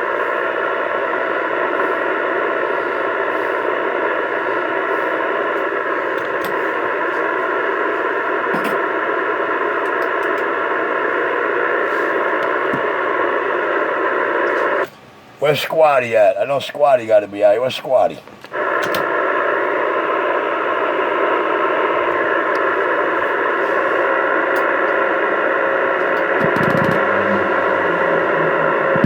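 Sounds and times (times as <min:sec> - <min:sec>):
radio static hiss: 0:00.0 - 0:29.0.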